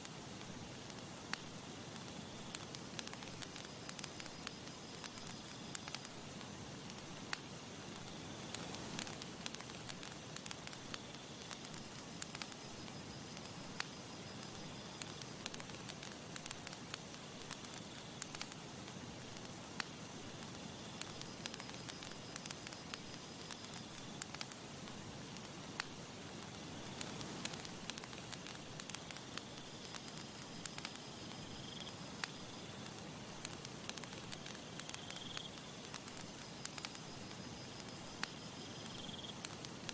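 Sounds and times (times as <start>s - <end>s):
campfire crackling and popping: 0.0s - 39.9s
hiss of burning wood: 0.0s - 39.9s.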